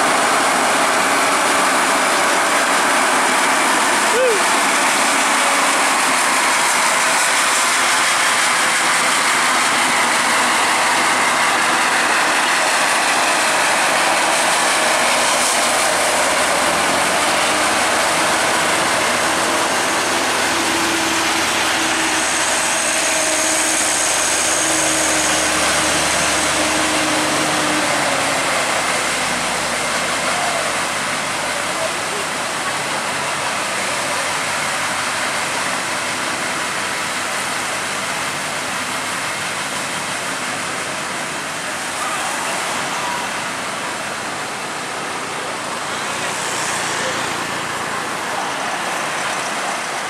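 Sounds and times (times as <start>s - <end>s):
diesel trucks grinding uphill: 0.0s - 50.0s
steady loud hiss: 0.0s - 50.0s.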